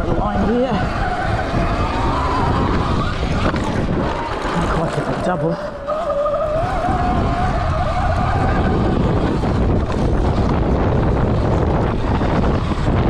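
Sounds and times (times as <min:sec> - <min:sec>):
electric motorbike motor whining: 0:00.0 - 0:13.0
tyres rumbling over dirt: 0:00.0 - 0:13.0
wind buffeting microphone: 0:00.0 - 0:13.0.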